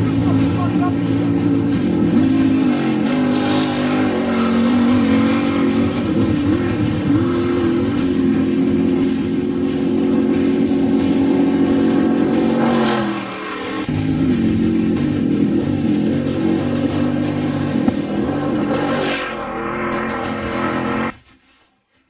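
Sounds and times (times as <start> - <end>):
buggy engine revving hard: 0.0 - 21.2.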